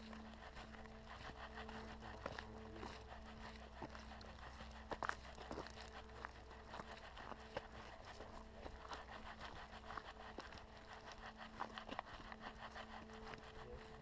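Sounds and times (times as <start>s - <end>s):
faint steady hum: 0.0s - 14.0s
footsteps on a trail: 0.0s - 14.0s.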